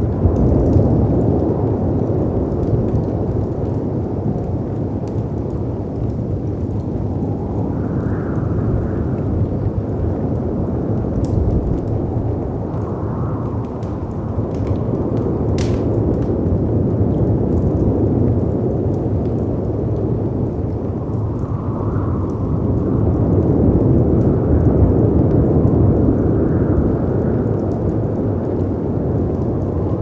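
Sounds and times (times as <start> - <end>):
howling wind: 0.0 - 30.0
wood fire crackling: 0.0 - 30.0.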